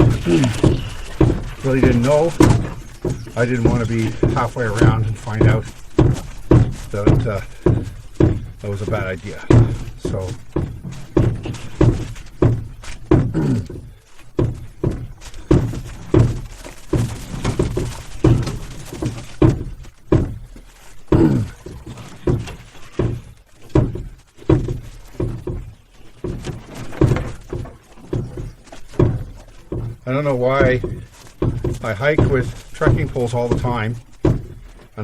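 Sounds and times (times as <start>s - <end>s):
footsteps on rocky trail: 0.0s - 35.0s.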